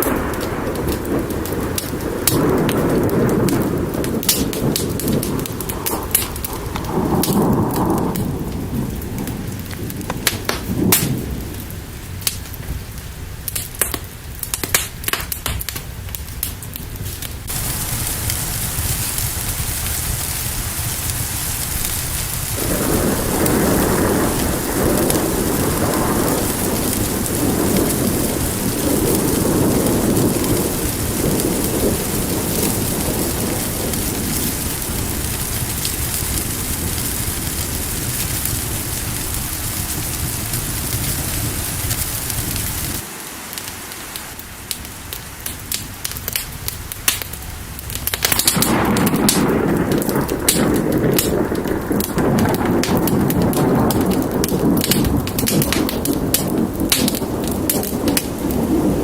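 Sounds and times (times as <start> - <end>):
sharp clicks and crackles: 0.0 - 8.3, 9.2 - 11.2, 13.4 - 43.0, 44.7 - 58.6
rolling thunder rumbling: 0.0 - 43.1, 44.3 - 59.0
heavy rain: 0.0 - 59.0.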